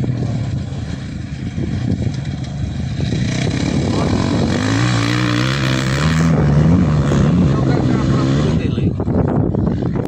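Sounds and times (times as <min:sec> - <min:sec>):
rally car engine revving: 0:00.0 - 0:09.1.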